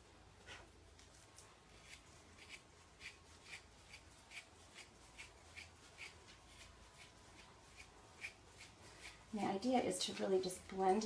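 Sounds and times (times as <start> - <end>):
scratchy strokes of hair pulling: 0.4 - 9.9.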